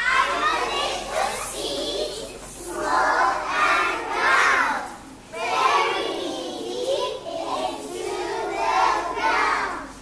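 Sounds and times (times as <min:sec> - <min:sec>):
young children's voices: 0:00.0 - 0:10.0.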